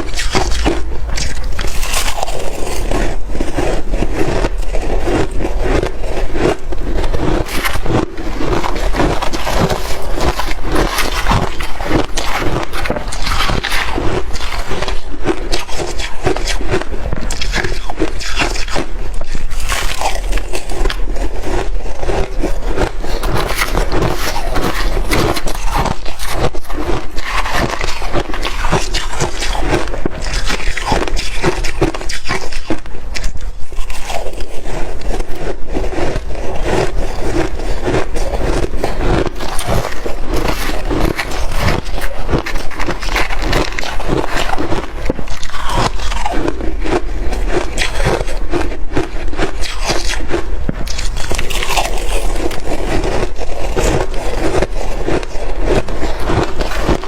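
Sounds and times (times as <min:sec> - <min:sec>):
person chewing ice: 0:00.0 - 0:57.0.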